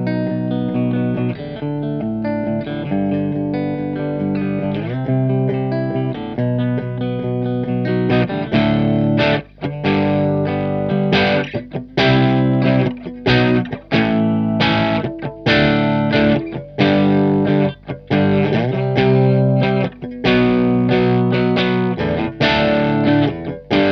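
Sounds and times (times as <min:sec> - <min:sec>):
overdriven electric guitar chords: 0:00.0 - 0:23.9.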